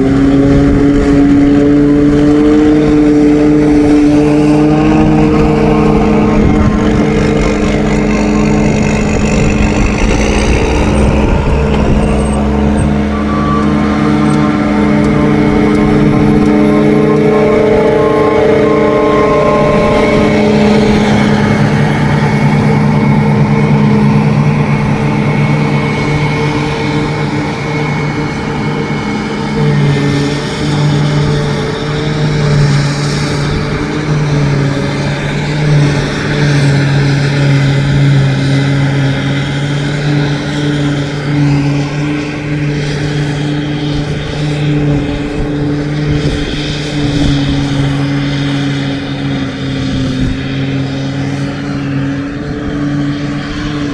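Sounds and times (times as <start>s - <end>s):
forage harvester engine drone: 0.0s - 53.9s.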